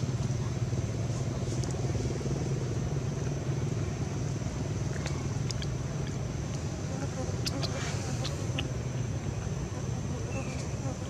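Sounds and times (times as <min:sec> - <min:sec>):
low motor rumble: 0:00.0 - 0:11.0.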